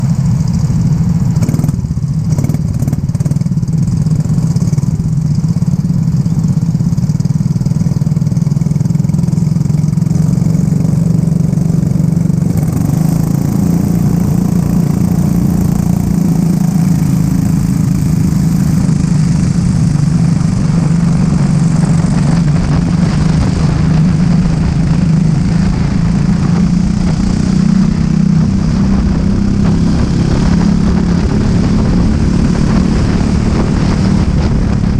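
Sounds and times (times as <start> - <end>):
go-kart engine droning: 0.0 - 34.9.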